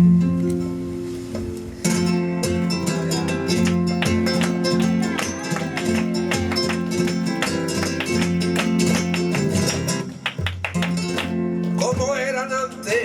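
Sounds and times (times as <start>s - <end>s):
flamenco guitar strumming: 0.0s - 13.0s.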